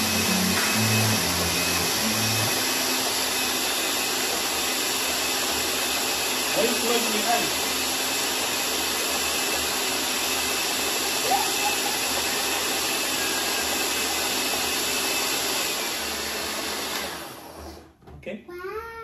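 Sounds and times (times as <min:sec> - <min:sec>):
blender motor running: 0:00.0 - 0:17.8.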